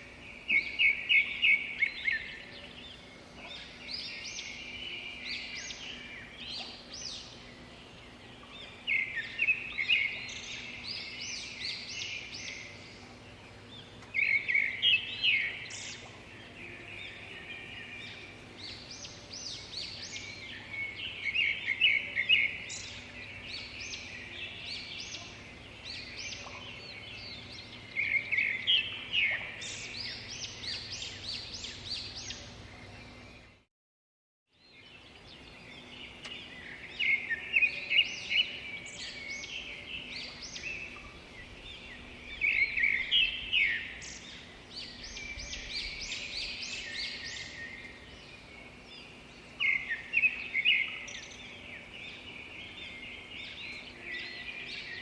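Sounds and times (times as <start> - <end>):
birds chirping: 0.0 - 33.6, 34.5 - 55.0.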